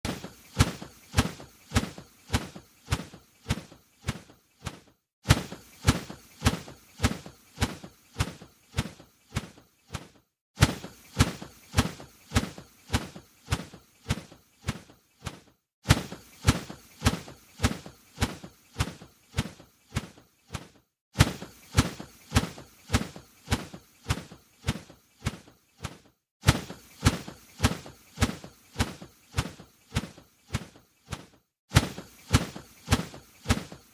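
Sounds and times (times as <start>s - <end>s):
bird wings flapping: 0.1s - 33.9s.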